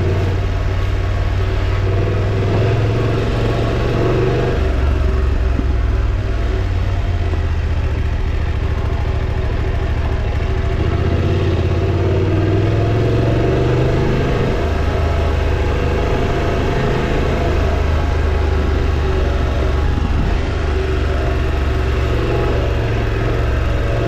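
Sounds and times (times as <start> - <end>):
motorcycle engine accelerating: 0.0 - 24.0
road and wind noise: 0.0 - 24.0.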